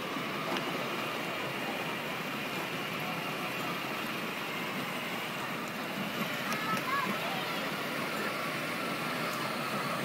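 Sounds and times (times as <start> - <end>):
toy car motor and wheels: 0.4 - 10.0.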